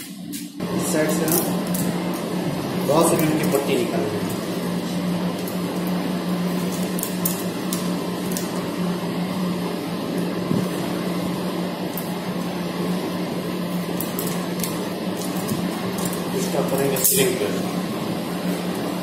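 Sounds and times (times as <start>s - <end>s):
machine hum with low tone: 0.0s - 19.0s.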